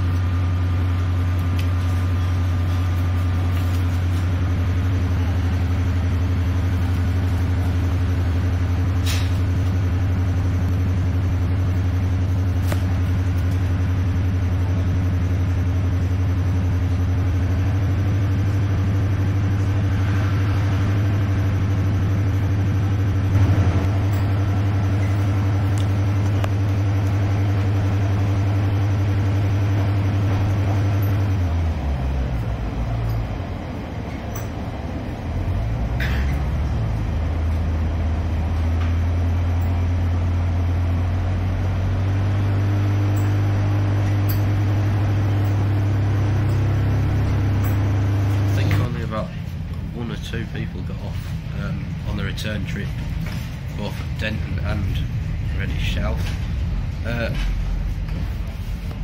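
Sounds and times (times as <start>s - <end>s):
train engine running: 0.0s - 59.0s.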